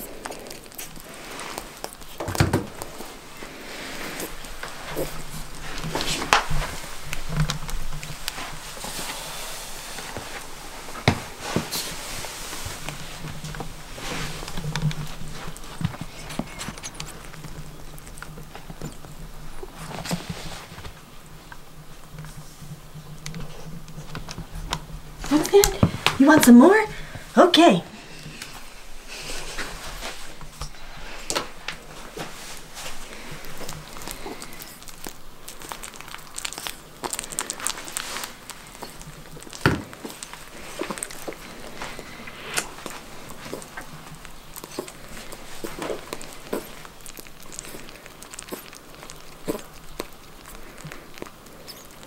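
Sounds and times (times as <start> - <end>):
rabbit paws pattering on a rug: 0.0 - 21.0, 28.4 - 52.0.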